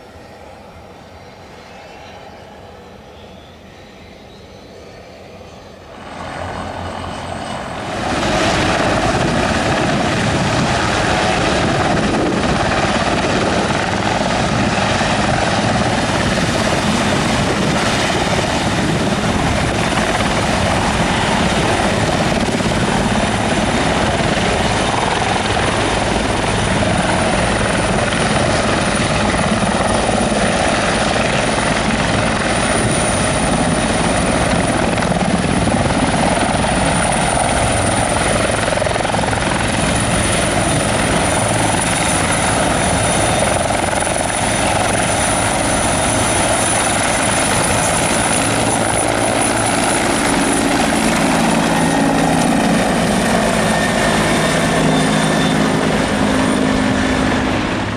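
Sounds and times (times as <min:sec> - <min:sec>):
helicopter rotor: 0:00.0 - 0:57.9
turbine high whine: 0:00.0 - 0:57.9.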